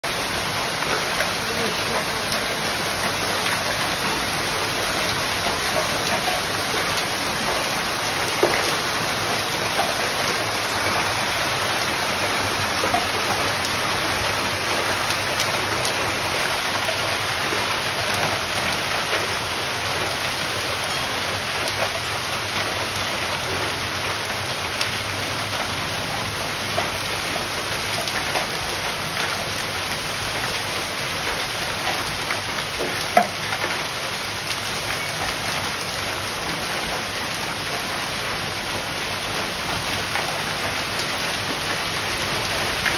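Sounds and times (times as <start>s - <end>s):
small raindrop ticks: 0.1s - 20.4s, 21.5s - 42.9s
steady rain hiss: 0.1s - 42.9s.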